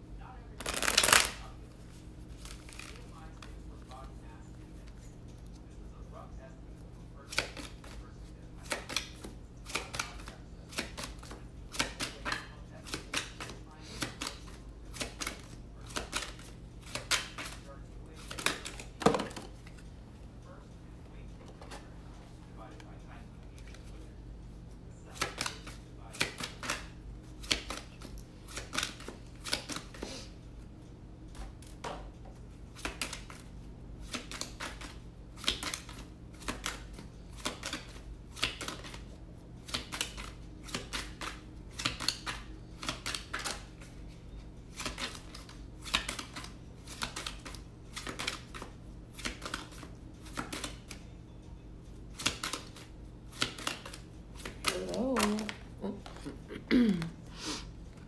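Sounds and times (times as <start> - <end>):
steady low hum: 0.0 - 58.0
cards being shuffled: 0.6 - 5.7, 7.2 - 19.9, 22.7 - 24.5, 25.1 - 30.3, 32.7 - 51.0, 52.1 - 56.4.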